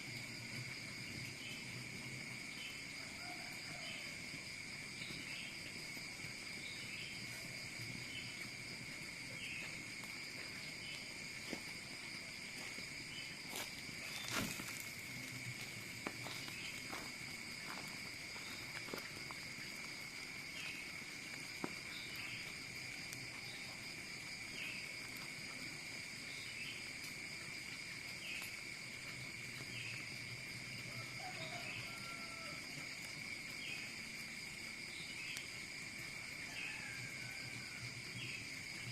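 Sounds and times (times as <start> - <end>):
crickets trilling: 0.0 - 38.9
short insect chirp: 4.9 - 38.9.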